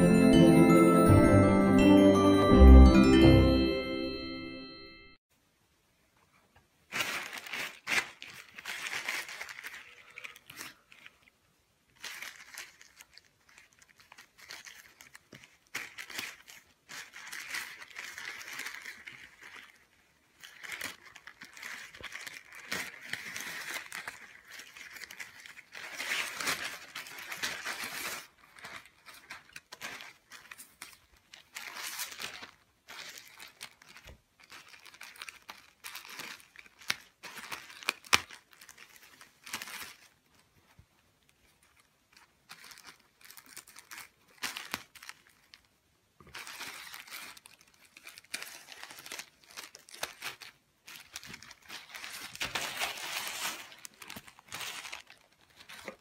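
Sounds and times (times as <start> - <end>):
plastic packaging crinkling: 6.8 - 56.0.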